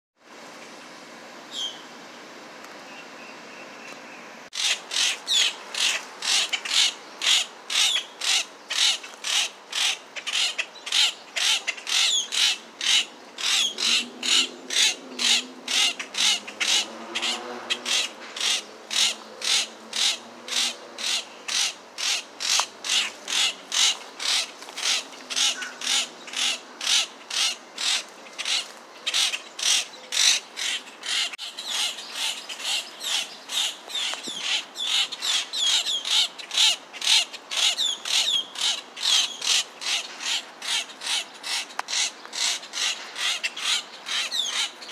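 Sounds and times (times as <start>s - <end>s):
grackle calling: 4.5s - 44.9s.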